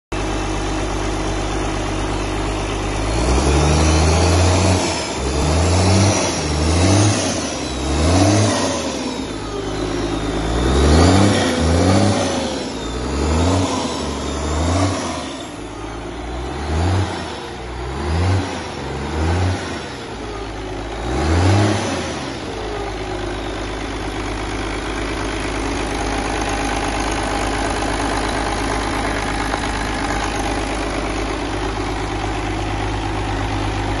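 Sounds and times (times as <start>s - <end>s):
diesel engine revving and idling: 0.1s - 34.0s.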